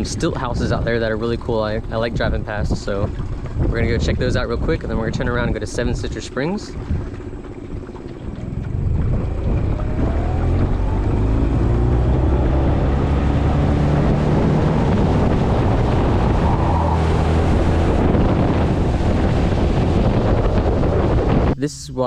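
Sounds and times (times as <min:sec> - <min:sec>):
outboard motor running: 0:00.0 - 0:21.6
wind buffeting microphone: 0:00.0 - 0:21.6.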